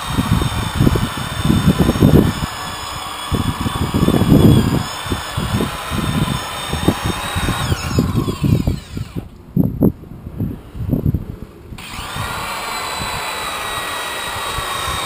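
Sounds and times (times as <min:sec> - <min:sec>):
rotary polisher whining: 0:00.0 - 0:09.3, 0:11.8 - 0:15.0.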